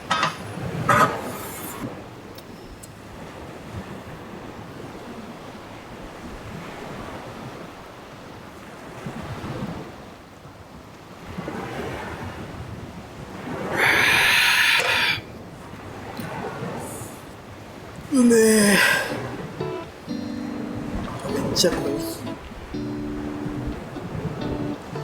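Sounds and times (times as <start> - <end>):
waves washing onto sand: 0.0 - 25.0
wind: 0.0 - 25.0.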